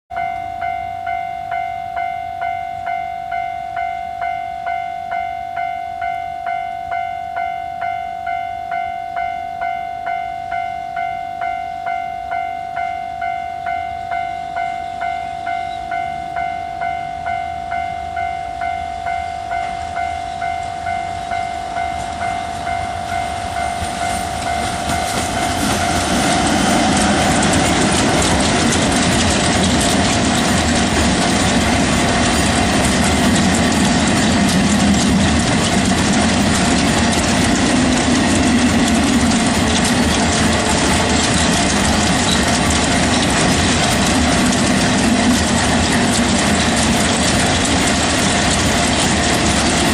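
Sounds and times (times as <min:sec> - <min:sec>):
level-crossing alarm ringing: 0:00.1 - 0:49.9
train wheels rumbling on rails: 0:00.1 - 0:49.9.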